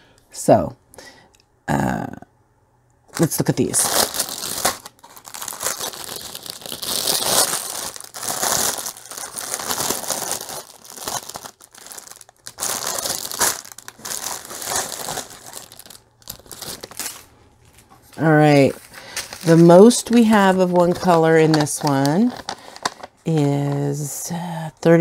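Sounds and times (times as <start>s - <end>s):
plastic bag crinkling: 3.1s - 23.9s.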